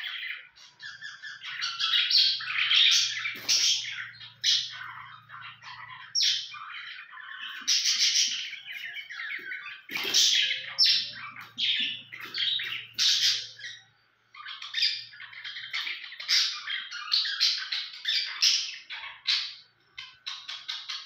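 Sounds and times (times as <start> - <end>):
budgerigars squawking and chirping: 0.0 - 21.0.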